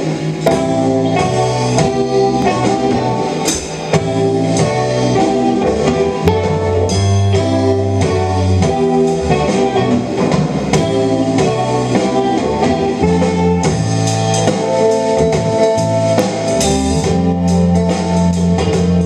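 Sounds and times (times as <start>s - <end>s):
drum kit with cymbals: 0.0s - 19.0s
electric guitar: 0.0s - 19.0s
low bass notes: 0.0s - 19.0s.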